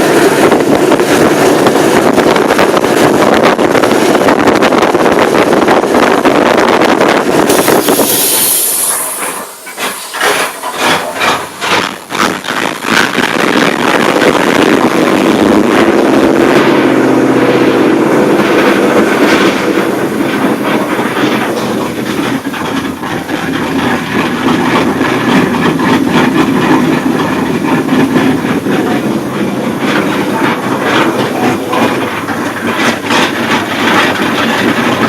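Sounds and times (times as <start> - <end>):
loud choppy engine exhaust: 0.0 - 35.0.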